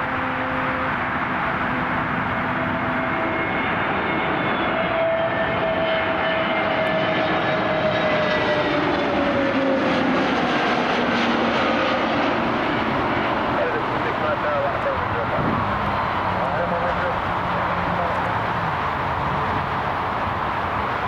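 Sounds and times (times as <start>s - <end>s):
jet airliner engine rush: 0.0s - 21.0s.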